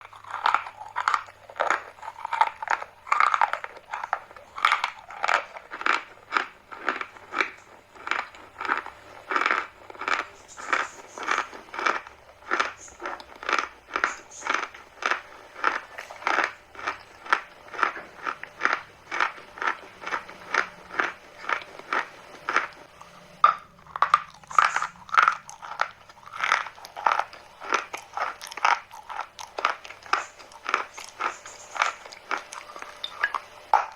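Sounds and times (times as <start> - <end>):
chalk crunching being chewed: 0.0 - 23.2, 23.8 - 33.9.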